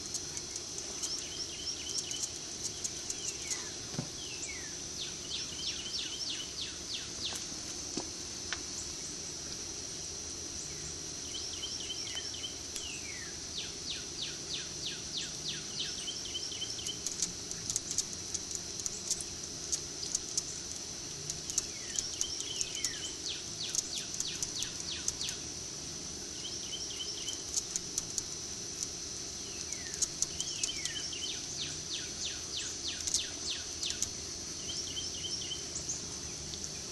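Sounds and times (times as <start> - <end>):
birds singing: 0.0 - 7.5, 10.6 - 20.8, 21.4 - 25.5, 26.3 - 36.9
high-pitched insect drone: 0.0 - 36.9.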